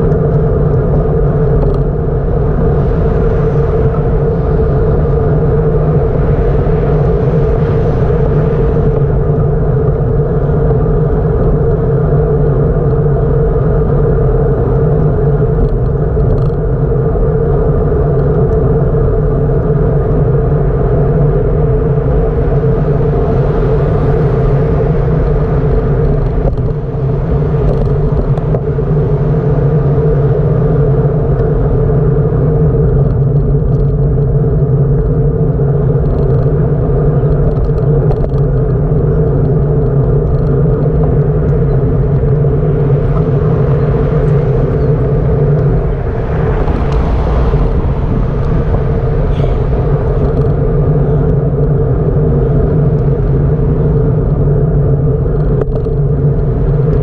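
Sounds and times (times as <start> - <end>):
bicycle road noise: 0.0 - 57.0
constant low drone: 0.0 - 57.0
wind rumble: 0.0 - 57.0.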